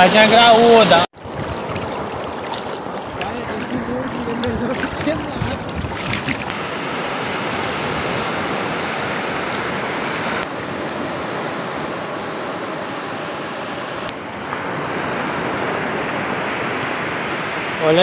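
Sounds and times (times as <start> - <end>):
surf rushing: 0.0 - 18.0
wind: 0.0 - 18.0.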